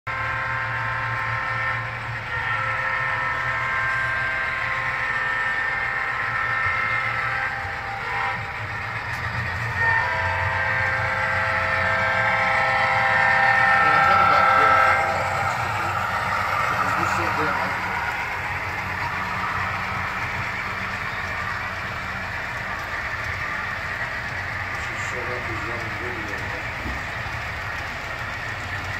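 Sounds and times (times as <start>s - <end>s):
model train running: 0.1s - 28.9s.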